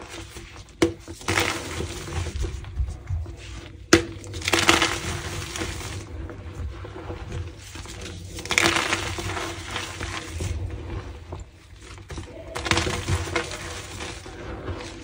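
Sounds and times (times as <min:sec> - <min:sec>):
chalk crunching and crumbling: 0:00.0 - 0:15.0.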